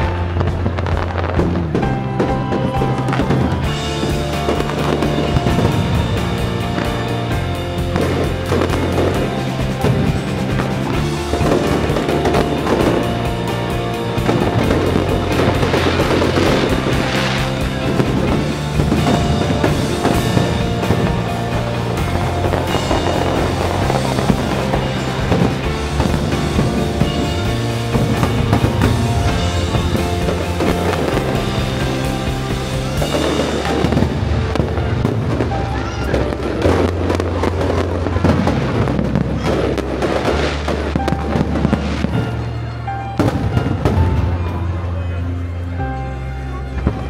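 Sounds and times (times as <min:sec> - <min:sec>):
fireworks bursting and crackling: 0:00.0 - 0:47.0
loud music playing: 0:00.0 - 0:47.0.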